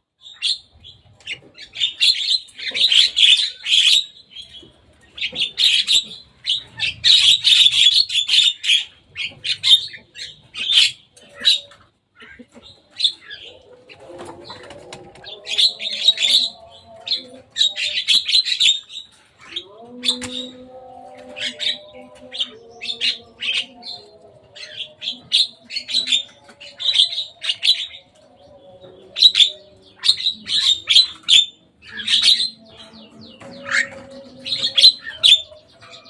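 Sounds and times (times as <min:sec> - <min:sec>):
birds chattering calls: 0:00.0 - 0:36.0.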